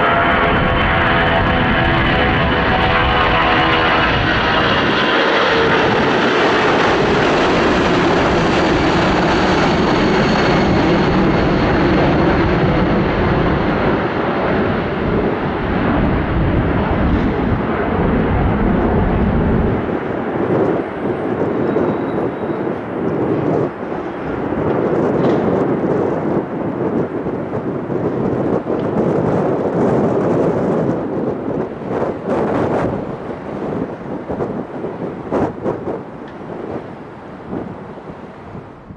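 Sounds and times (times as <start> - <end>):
jet engines at takeoff: 0.0 - 38.9.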